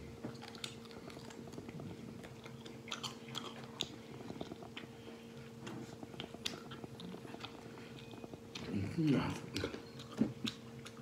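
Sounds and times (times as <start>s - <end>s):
person chewing and gnawing meat: 0.0s - 11.0s.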